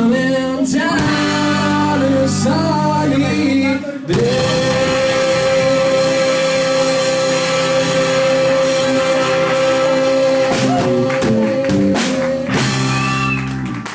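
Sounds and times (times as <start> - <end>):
rock band playing: 0.0 - 13.9.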